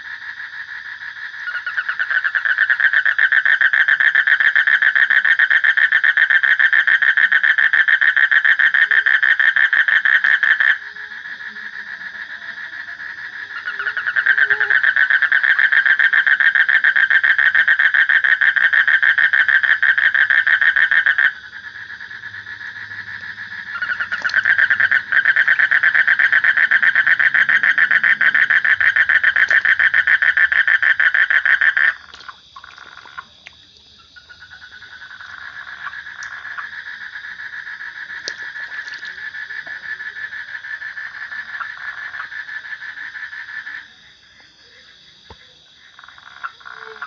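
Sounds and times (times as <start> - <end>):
frog trilling: 0.0 - 44.0, 44.6 - 47.0.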